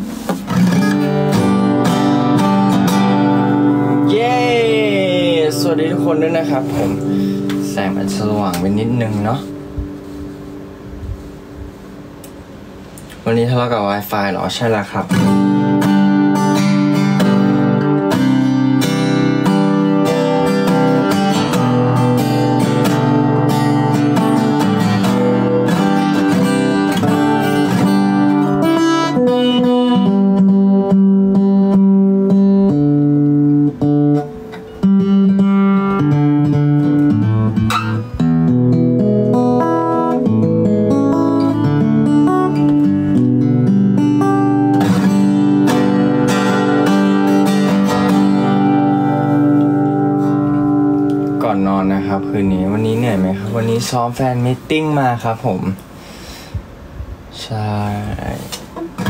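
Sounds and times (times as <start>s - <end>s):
acoustic guitar strumming chords: 0.0s - 13.2s, 14.6s - 57.4s, 58.3s - 59.0s.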